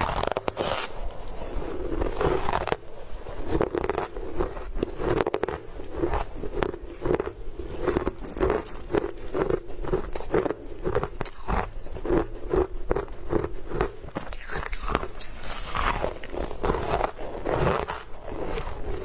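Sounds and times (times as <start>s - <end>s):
crunching and chewing ice: 0.0s - 19.0s.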